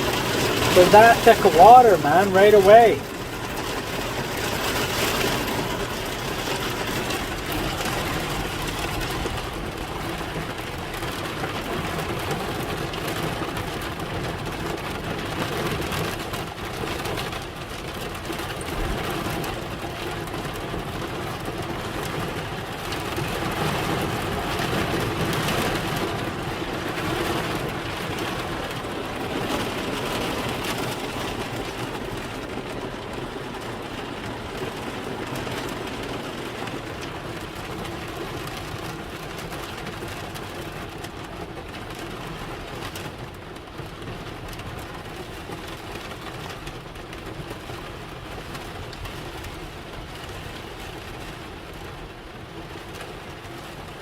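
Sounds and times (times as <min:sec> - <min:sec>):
car tyres on wet road: 0:00.0 - 0:54.0
heavy rain: 0:00.0 - 0:54.0.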